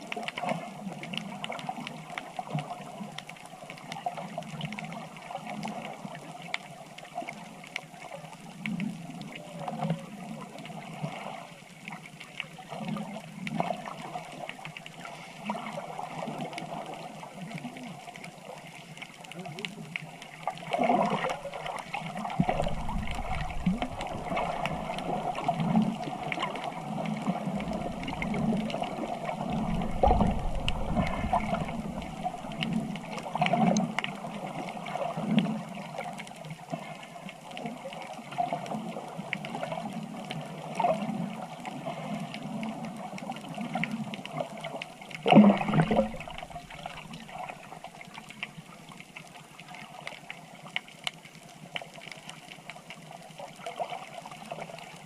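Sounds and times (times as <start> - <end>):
water sloshing and gurgling: 0.0 - 55.0.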